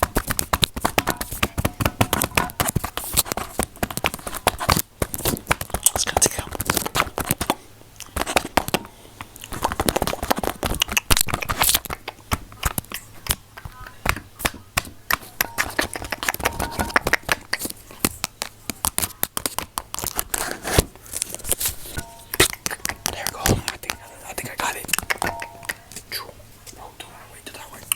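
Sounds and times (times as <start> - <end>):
clicks and crackles at microphone: 0.0 - 26.1.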